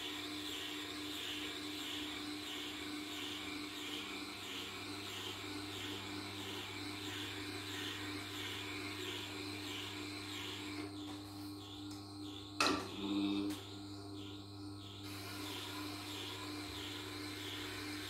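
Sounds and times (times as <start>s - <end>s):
sharpening machine humming: 0.0s - 18.0s.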